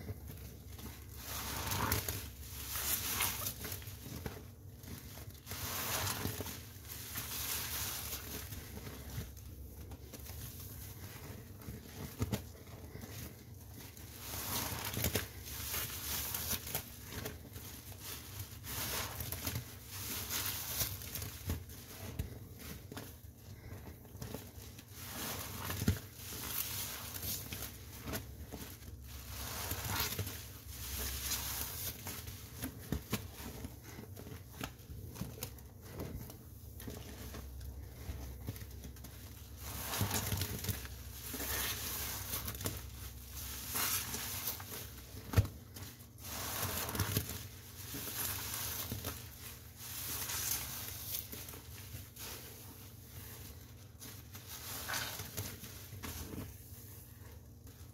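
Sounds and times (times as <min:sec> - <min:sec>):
soapy sponge squishing: 0:00.0 - 0:57.9.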